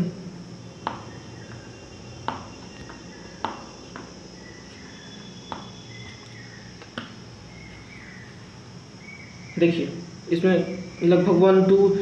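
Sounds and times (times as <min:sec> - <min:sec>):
faint high chirping: 0:00.0 - 0:12.0
steady low hum: 0:00.0 - 0:12.0.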